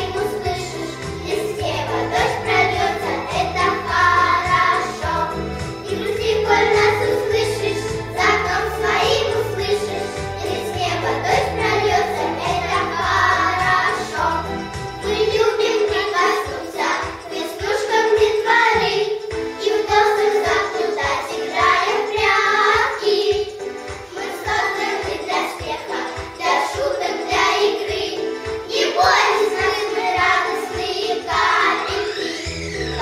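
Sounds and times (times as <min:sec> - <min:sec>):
children singing: 0:00.0 - 0:33.0
instrumental accompaniment with beat: 0:00.0 - 0:33.0.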